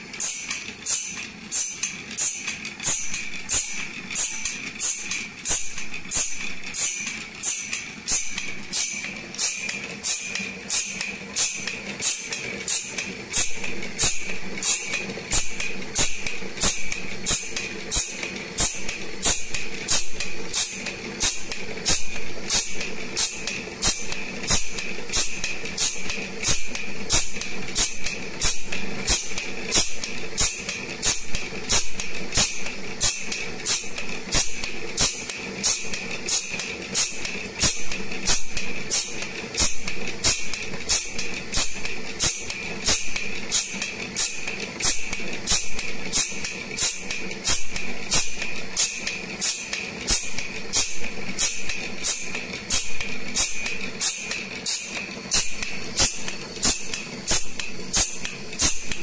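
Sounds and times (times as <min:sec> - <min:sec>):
machine motor whine and hum: 0:00.0 - 0:59.0
grinding wheel hissing on teeth: 0:00.1 - 0:59.0.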